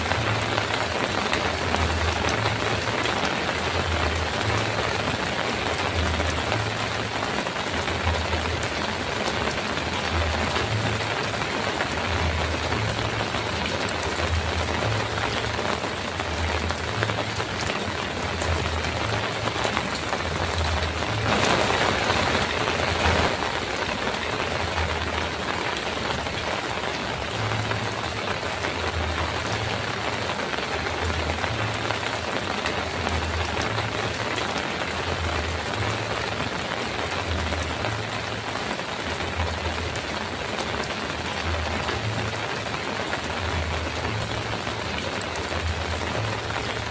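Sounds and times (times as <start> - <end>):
heavy rain on a metal roof: 0.0 - 46.9.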